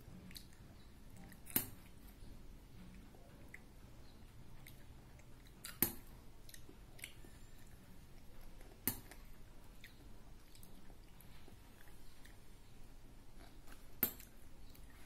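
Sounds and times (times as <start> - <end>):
child chewing: 0.0 - 15.0.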